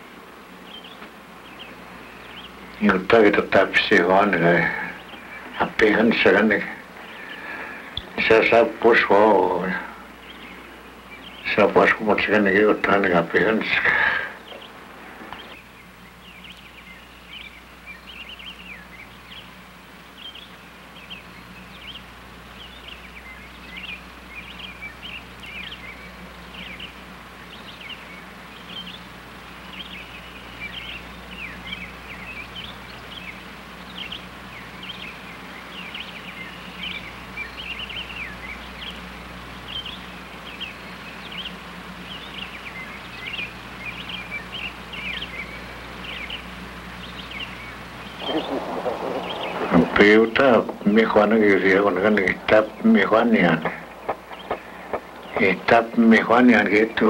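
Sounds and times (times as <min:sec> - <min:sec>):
low electrical hum: 0:00.0 - 0:57.0
small birds chirping: 0:00.0 - 0:57.0.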